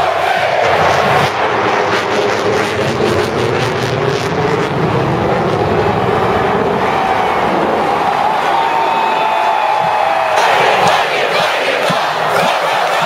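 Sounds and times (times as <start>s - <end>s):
stadium crowd cheering: 0.0s - 2.6s, 4.5s - 13.0s
jet engine rumble: 0.1s - 11.3s.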